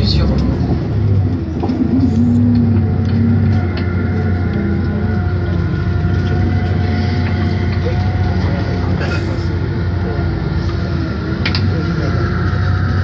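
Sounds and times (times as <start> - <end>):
coach engine running: 0.0 - 13.0.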